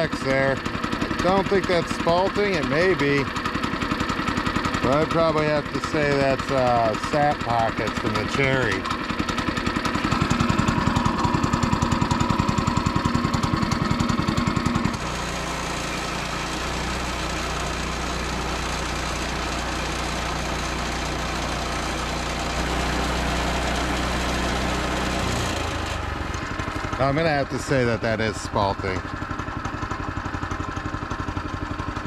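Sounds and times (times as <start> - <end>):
sawmill engine running: 0.0 - 32.0.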